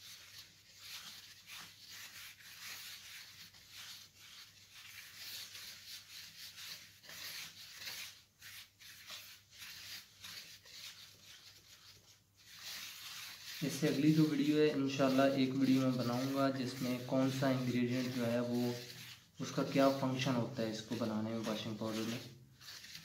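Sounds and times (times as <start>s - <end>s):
gloved hands rubbing powder: 0.0s - 23.0s.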